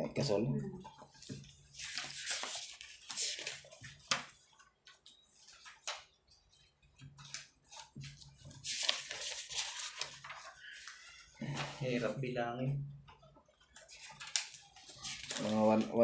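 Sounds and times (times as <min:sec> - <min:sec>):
paper sheets rustling: 0:00.8 - 0:12.2, 0:13.2 - 0:16.0.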